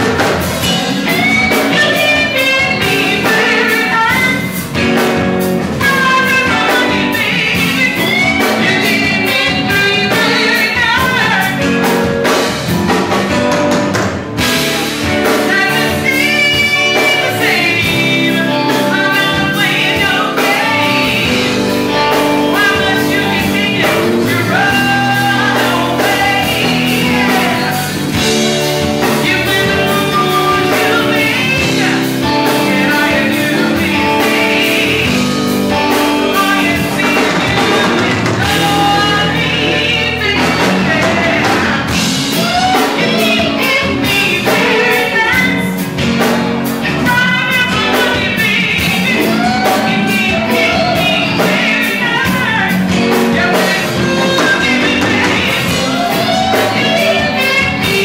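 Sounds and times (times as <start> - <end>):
funk band playing: 0.0 - 58.0
lead singer singing: 0.0 - 58.0.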